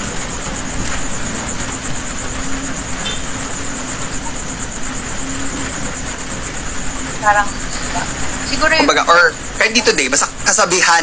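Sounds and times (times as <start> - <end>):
background hiss and rumble: 0.0 - 11.0
faint hum: 0.0 - 11.0.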